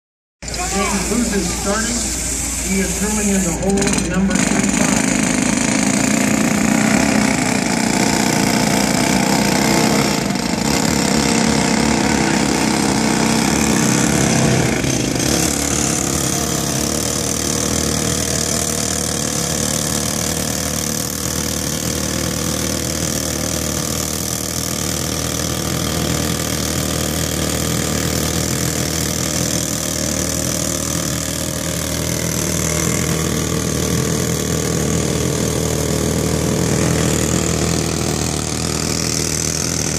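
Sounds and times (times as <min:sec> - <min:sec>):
engine idling: 0:00.4 - 0:39.9
pneumatic rock drill hammering: 0:00.4 - 0:39.9.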